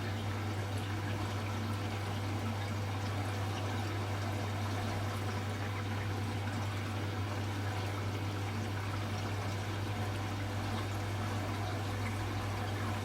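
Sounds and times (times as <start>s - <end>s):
water flowing in washing machine: 0.0s - 13.0s.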